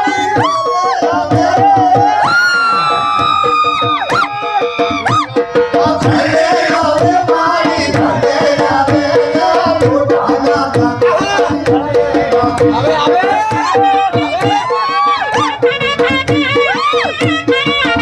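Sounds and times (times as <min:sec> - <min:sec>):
dhol drum beat: 0:00.0 - 0:18.0.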